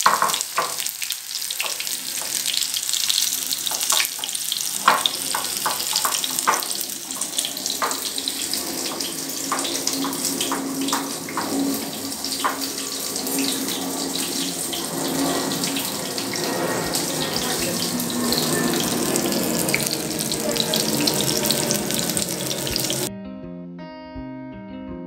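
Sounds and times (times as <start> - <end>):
fish frying in hot oil: 0.0 - 23.1.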